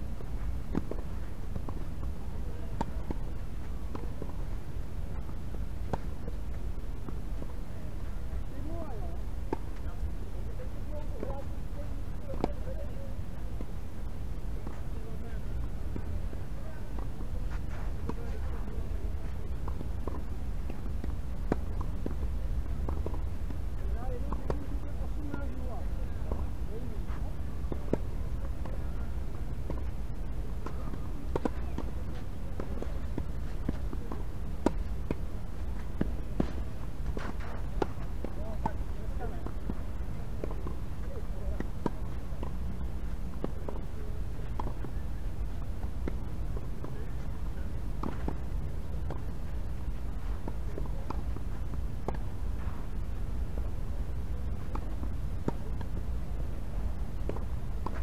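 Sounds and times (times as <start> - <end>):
steady low rumble: 0.0 - 58.0
tennis ball taps and knocks: 0.2 - 8.0, 8.6 - 13.8, 14.6 - 56.2, 56.8 - 58.0.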